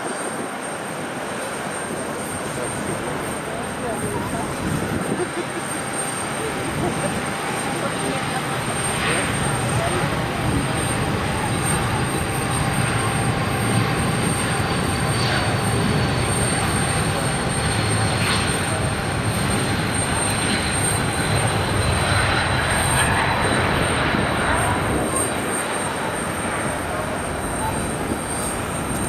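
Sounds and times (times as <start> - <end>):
jet engines rumbling with whine: 0.0 - 29.0.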